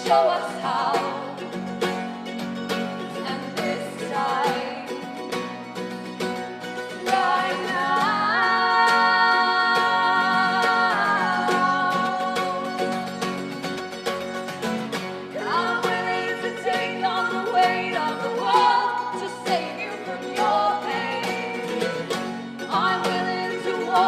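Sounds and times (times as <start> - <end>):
person singing: 0.0 - 1.5, 3.1 - 5.4, 6.9 - 13.8, 15.3 - 24.0
guitar playing: 0.0 - 24.0.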